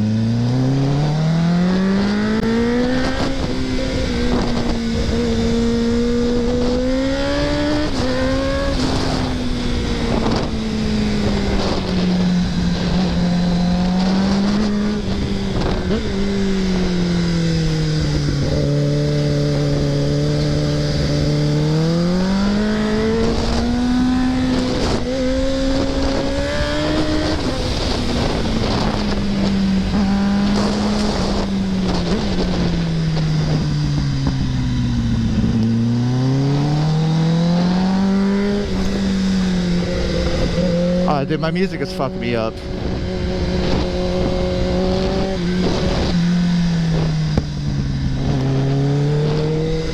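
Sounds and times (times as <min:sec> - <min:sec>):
motorcycle engine revving: 0:00.0 - 0:49.9
wind rush: 0:00.0 - 0:49.9.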